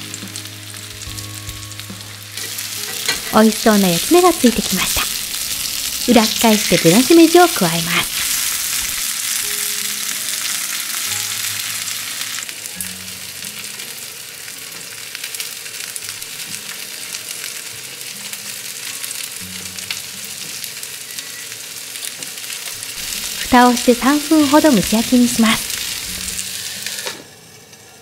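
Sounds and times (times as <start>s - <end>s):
fish and mushrooms sizzling in oil: 0.0s - 28.0s.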